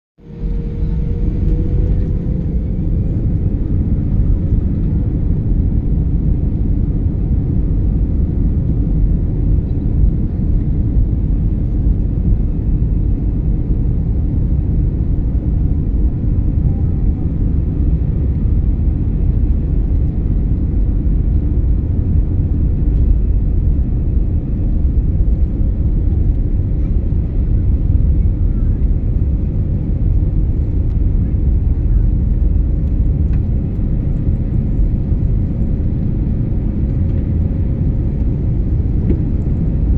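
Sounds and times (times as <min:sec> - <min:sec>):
jet engines roaring: 0:00.2 - 0:39.9.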